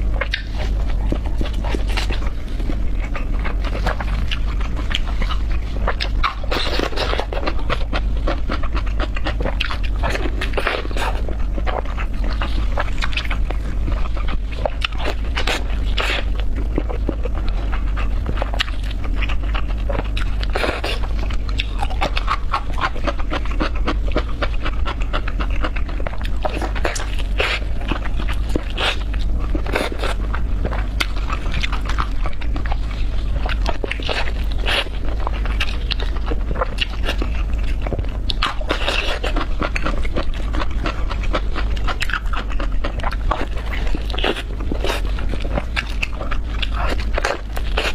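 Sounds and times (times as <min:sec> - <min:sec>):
wet chewing and smacking: 0:00.0 - 0:47.9.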